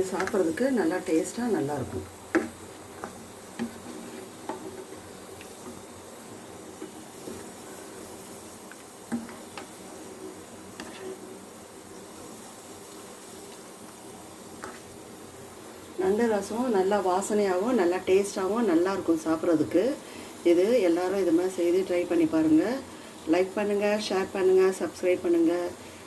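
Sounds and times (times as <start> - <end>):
pot simmering with low hiss: 0.0 - 26.0.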